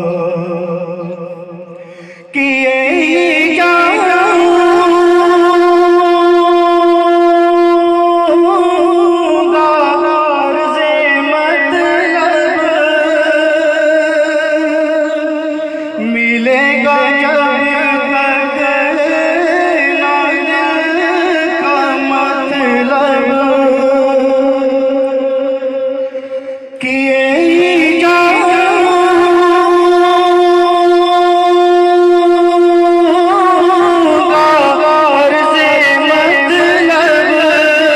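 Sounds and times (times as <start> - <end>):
man singing through a microphone: 0.0 - 37.9.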